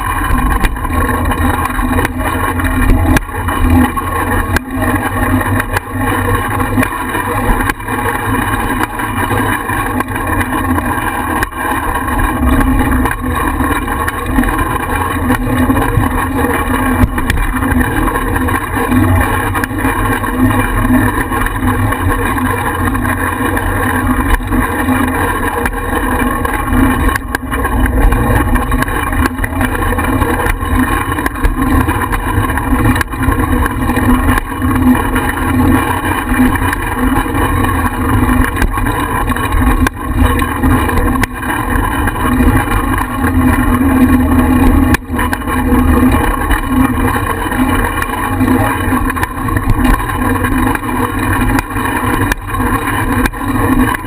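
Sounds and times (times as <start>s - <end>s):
bicycle riding rumble: 0.0s - 54.0s
constant hum: 0.0s - 54.0s.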